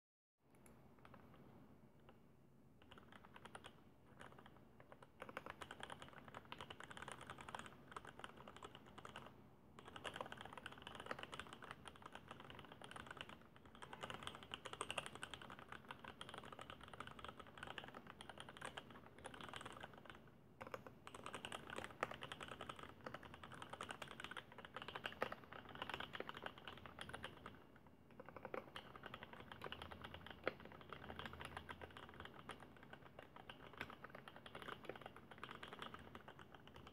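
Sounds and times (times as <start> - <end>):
keyboard typing: 0.5 - 2.2, 2.8 - 36.9.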